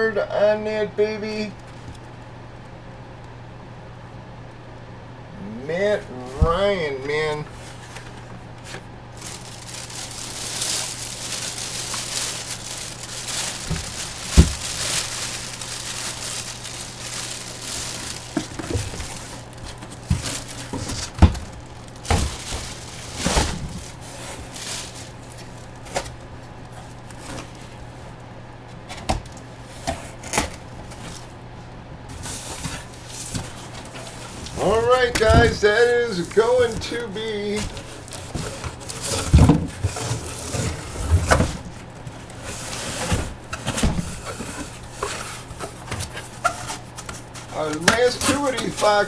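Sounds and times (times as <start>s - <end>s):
packaging crinkling and rustling: 6.6s - 31.4s, 32.1s - 49.0s.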